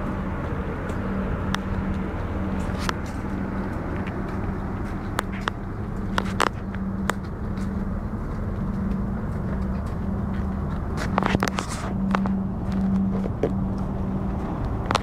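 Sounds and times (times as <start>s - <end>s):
constant rumble: 0.0s - 15.0s.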